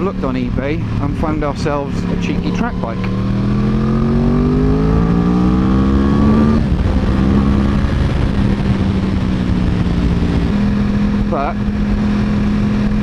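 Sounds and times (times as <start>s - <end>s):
motorcycle engine accelerating: 0.0s - 13.0s
wind rushing over microphone: 0.0s - 13.0s.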